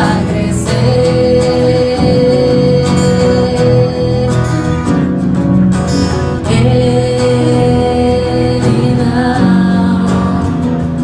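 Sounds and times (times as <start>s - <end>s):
acoustic guitar accompaniment: 0.0s - 11.0s.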